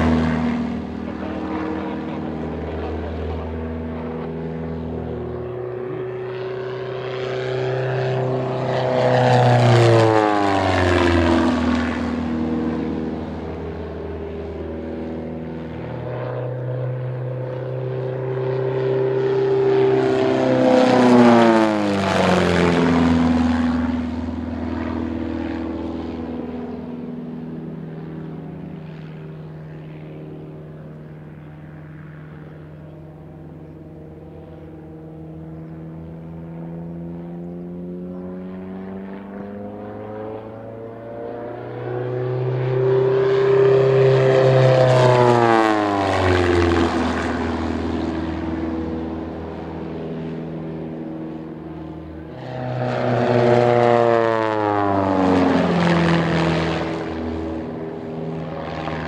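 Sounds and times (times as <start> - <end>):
propeller plane flying past: 0.0 - 59.0.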